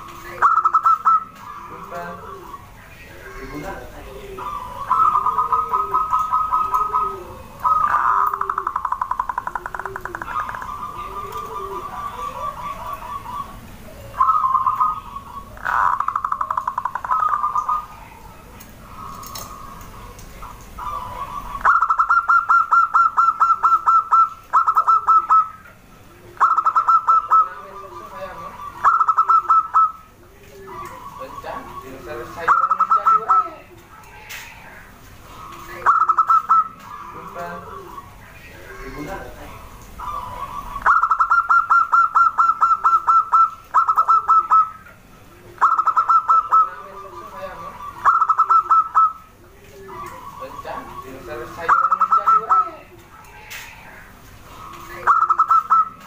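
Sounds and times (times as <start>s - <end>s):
dove singing staccato notes: 0.0s - 56.0s.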